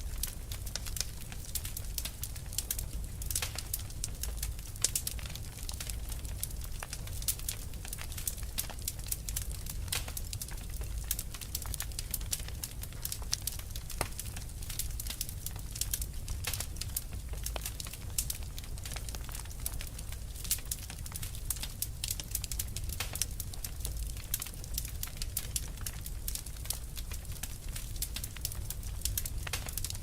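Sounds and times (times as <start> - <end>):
fire crackling and popping: 0.0 - 30.0
low rumble of burning: 0.0 - 30.0.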